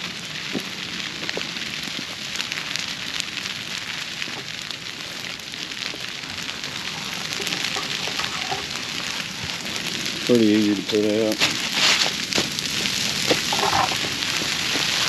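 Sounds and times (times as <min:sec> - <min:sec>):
grass fire crackling and popping: 0:00.0 - 0:15.0.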